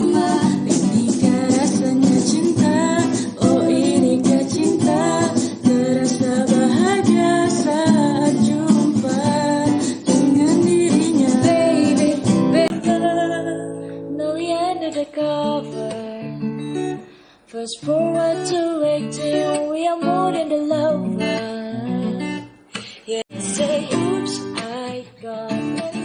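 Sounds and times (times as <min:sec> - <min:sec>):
person singing: 0:00.0 - 0:16.4, 0:17.5 - 0:26.0
strummed acoustic guitar: 0:00.0 - 0:26.0.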